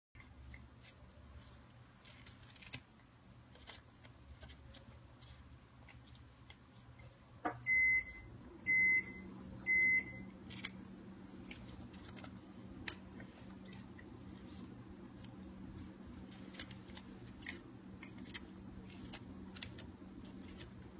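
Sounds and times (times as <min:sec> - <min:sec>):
low steady hum: 0:00.2 - 0:20.9.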